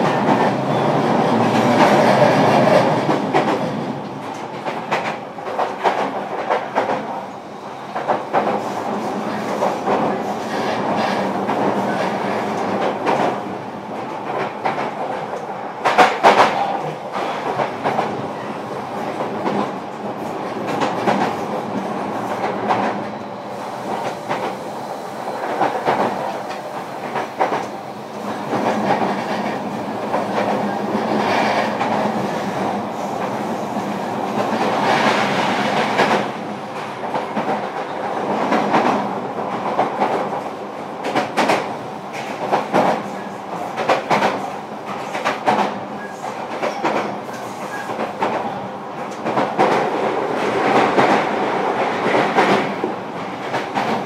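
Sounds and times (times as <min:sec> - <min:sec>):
train clatter: 0:00.0 - 0:07.2, 0:07.8 - 0:54.0
train wheels rumbling on rail: 0:00.0 - 0:54.0.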